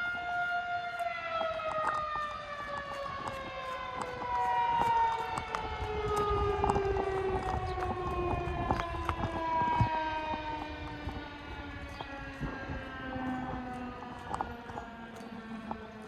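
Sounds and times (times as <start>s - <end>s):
warning siren winding down: 0.0s - 16.0s.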